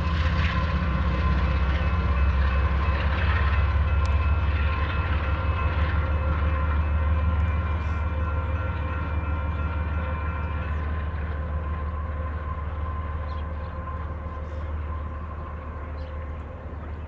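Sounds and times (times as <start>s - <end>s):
diesel locomotive engine rumble: 0.0s - 17.0s
faint steady tones: 0.0s - 17.0s.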